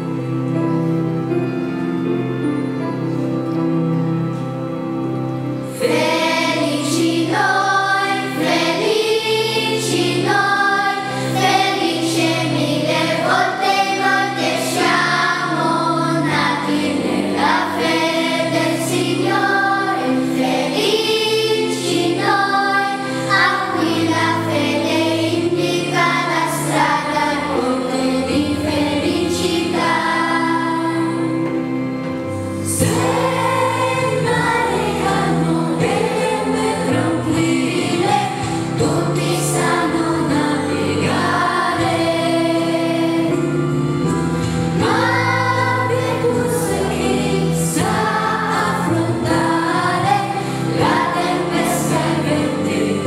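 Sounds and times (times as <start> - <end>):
children's choir singing: 0.0 - 53.0
instrumental accompaniment: 0.0 - 53.0.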